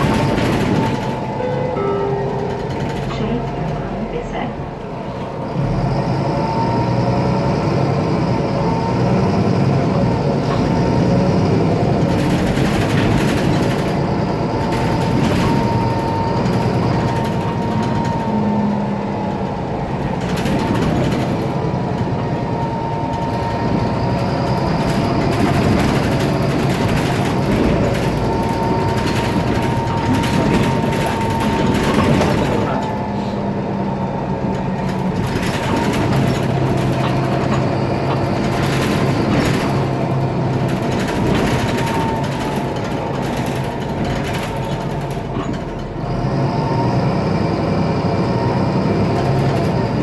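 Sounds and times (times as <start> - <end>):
bus diesel engine running: 0.0 - 50.0.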